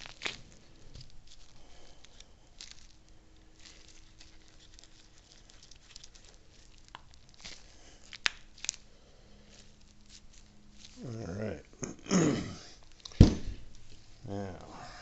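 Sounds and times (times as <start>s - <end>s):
soft rustling: 0.0s - 11.8s, 12.6s - 15.0s.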